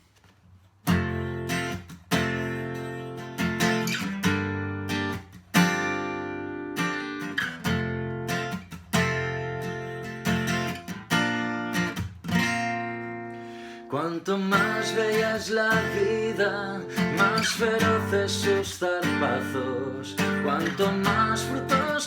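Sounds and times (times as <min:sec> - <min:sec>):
acoustic guitar strumming chords: 0:00.9 - 0:22.0.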